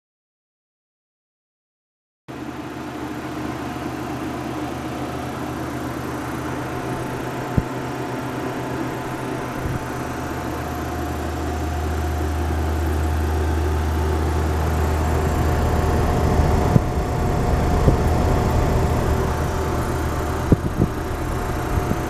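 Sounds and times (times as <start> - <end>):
cooler condensing unit humming: 2.3 - 22.0.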